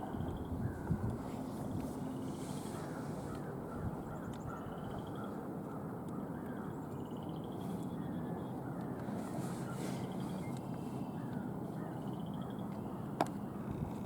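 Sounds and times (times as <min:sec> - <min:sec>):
small birds trilling: 0:00.0 - 0:13.2.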